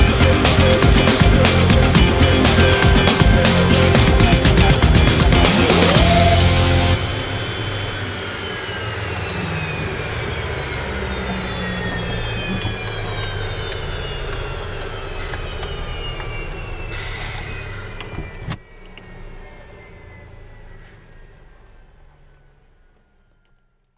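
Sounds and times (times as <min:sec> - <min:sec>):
jet engine spooling down: 0:00.0 - 0:23.7.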